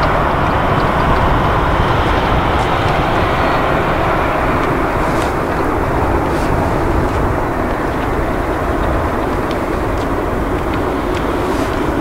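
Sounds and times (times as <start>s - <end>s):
airliner jet engine: 0.0s - 12.0s.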